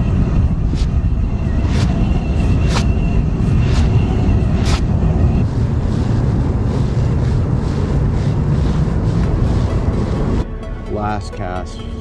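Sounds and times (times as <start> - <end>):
wind buffeting microphone: 0.0 - 10.4
thin steady whine: 0.0 - 12.0.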